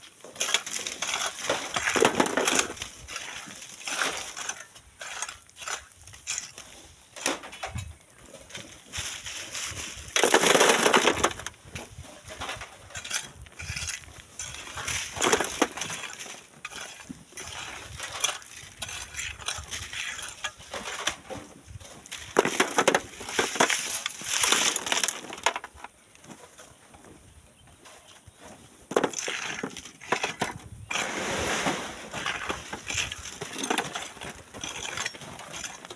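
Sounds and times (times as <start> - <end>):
sand and stones crunching: 0.0 - 7.4, 8.0 - 35.9.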